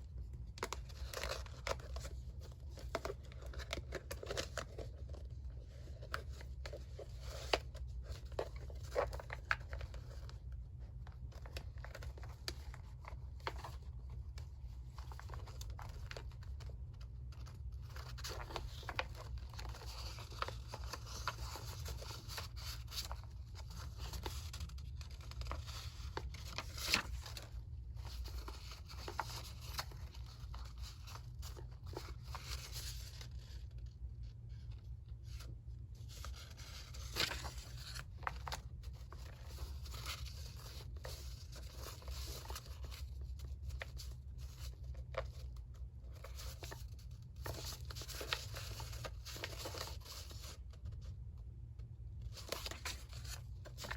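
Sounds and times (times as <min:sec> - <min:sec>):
paper rustling and scraping: 0:00.3 - 0:51.2, 0:52.2 - 0:53.9.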